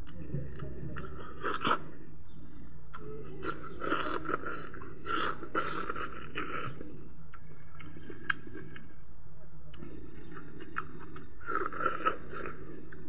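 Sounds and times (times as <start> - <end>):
person chewing food: 0.0 - 2.1, 2.9 - 9.0, 9.7 - 13.0
steady low hum: 0.0 - 13.0.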